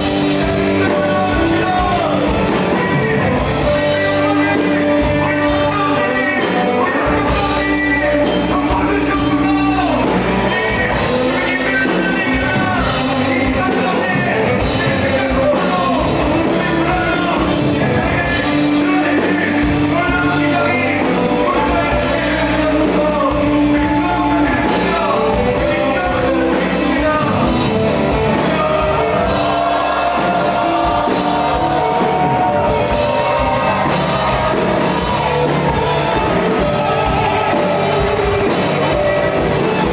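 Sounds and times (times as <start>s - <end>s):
group of vocalists singing: 0.0s - 39.9s
worship band playing rock: 0.0s - 39.9s.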